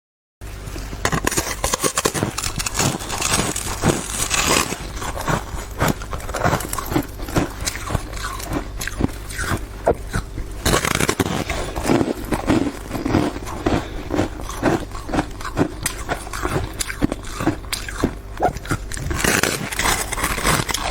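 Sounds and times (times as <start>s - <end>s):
ice crunching being chewed: 0.4s - 20.9s
steady low hum: 0.4s - 20.9s.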